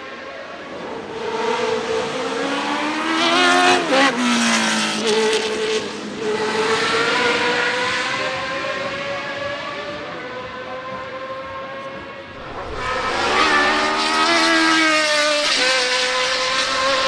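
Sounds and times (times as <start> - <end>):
race car passing at speed: 0.8 - 17.0.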